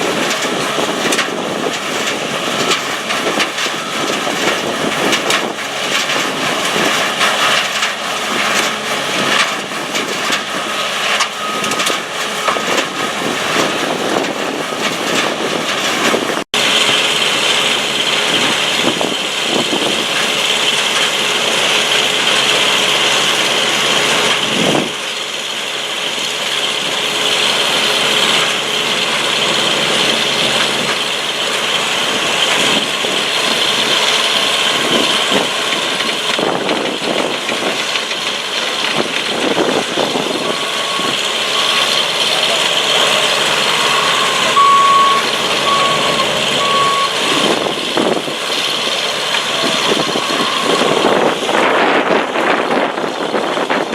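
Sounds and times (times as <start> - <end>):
screening plant engine and conveyors: 0.0 - 53.9.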